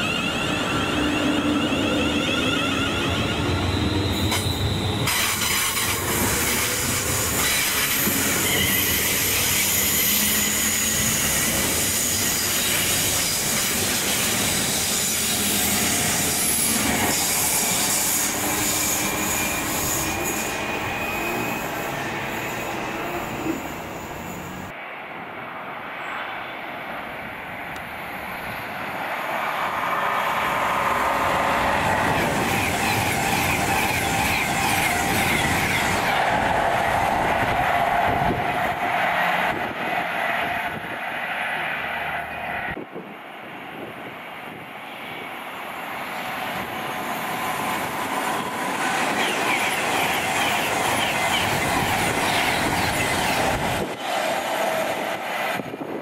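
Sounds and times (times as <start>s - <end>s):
train wheels rushing on rail: 0.0s - 24.9s, 25.6s - 56.0s.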